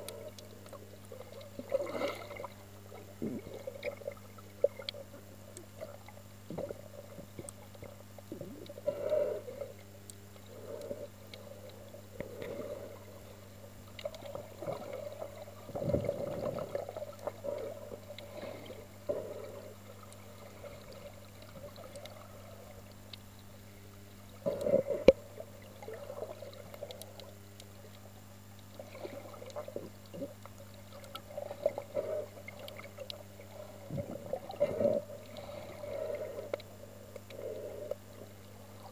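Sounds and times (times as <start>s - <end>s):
steady low hum: 0.0s - 38.9s
underwater sloshing and bubbling: 0.0s - 38.9s.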